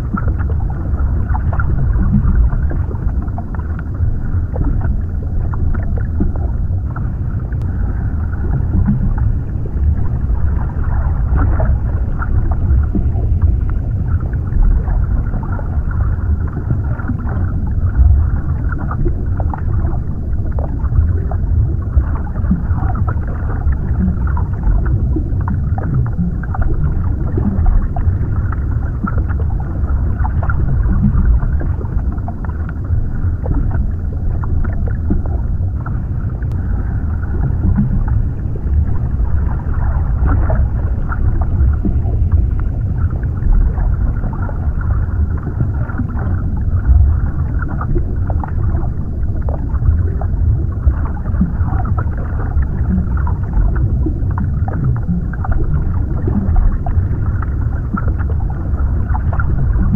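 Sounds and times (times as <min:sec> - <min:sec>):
faint bubbling and gurgling: 0:00.0 - 0:59.9
muffled underwater rumble: 0:00.0 - 0:59.9.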